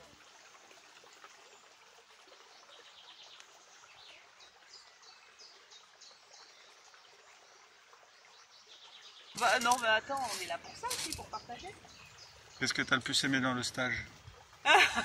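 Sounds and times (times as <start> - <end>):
songbird chirping: 2.3 - 15.0.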